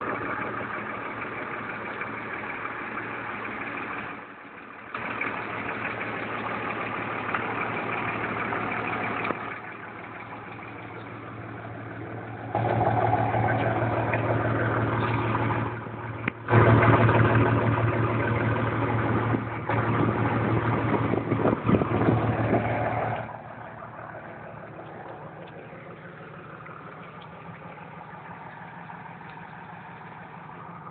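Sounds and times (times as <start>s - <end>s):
truck engine idling: 0.0s - 30.9s.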